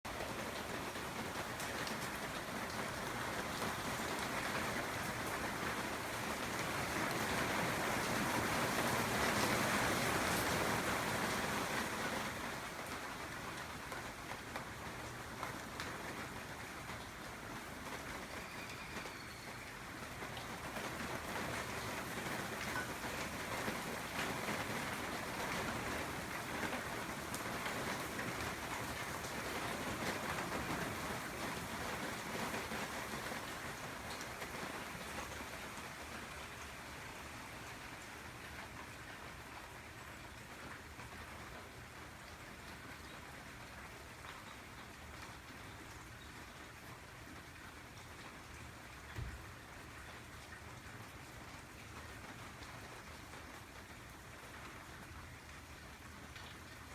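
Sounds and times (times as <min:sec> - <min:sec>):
rain falling: 0:00.1 - 0:56.9.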